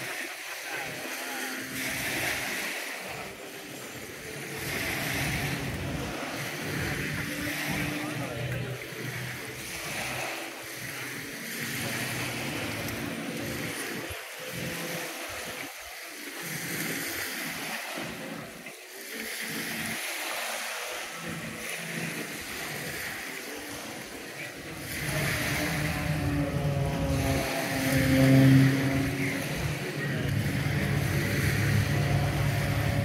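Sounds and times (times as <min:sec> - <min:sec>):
distant engine droning: 0:00.0 - 0:18.6, 0:19.2 - 0:33.0
water noise: 0:00.0 - 0:33.0
wind: 0:00.0 - 0:33.0.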